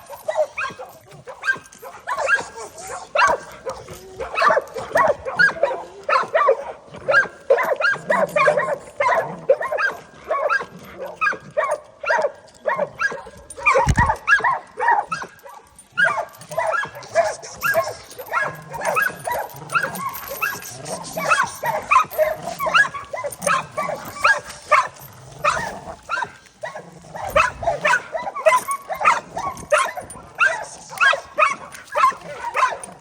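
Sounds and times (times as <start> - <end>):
dogs barking: 0.0 - 33.0.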